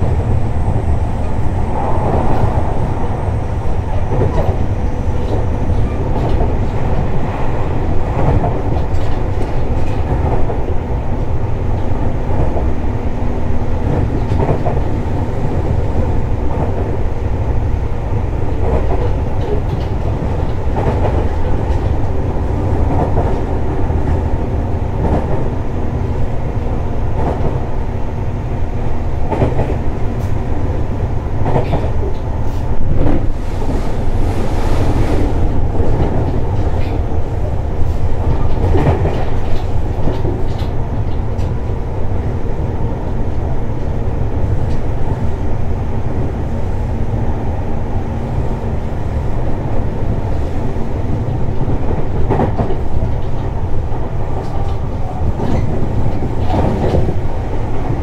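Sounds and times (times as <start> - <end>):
rail joint clicks: 0.0 - 58.0
train wheels rumbling on rails: 0.0 - 58.0.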